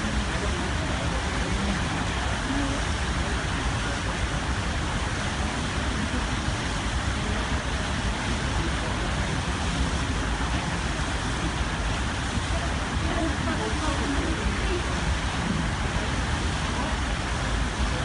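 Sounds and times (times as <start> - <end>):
water rushing past hull: 0.0 - 18.0.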